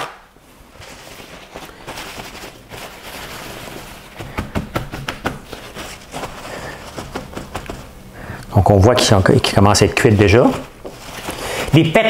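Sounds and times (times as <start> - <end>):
paper towels rustling: 0.0 - 12.0
hands patting food dry: 0.9 - 9.2, 10.0 - 11.8.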